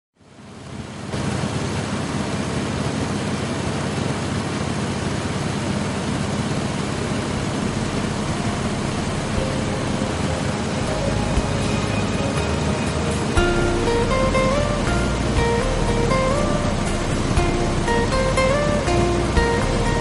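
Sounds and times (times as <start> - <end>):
aircraft engine drone: 0.4 - 20.0.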